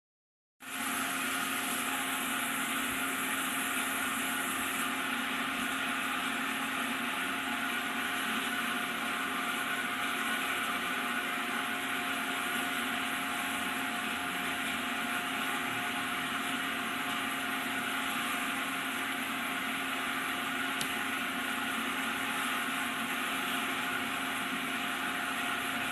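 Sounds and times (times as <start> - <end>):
gear hobbing machine humming: 0.6 - 25.9.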